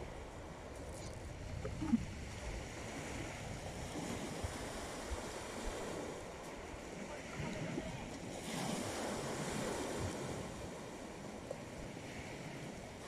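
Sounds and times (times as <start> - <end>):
waves washing on pebble shore: 0.0 - 13.0
wind rumbling on microphone: 0.0 - 13.0.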